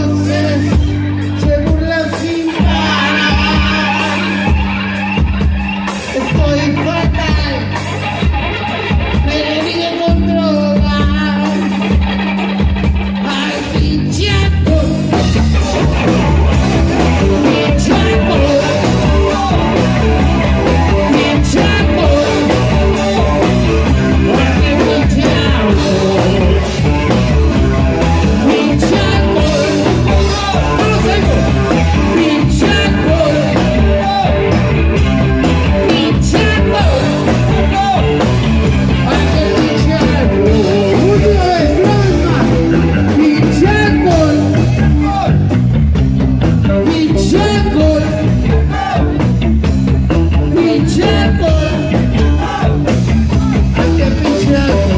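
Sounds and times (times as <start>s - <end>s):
man singing: 0.0s - 5.3s, 5.9s - 8.2s, 9.0s - 12.0s, 13.1s - 45.7s, 46.4s - 49.4s, 50.1s - 54.9s
rock band playing live: 0.0s - 54.9s.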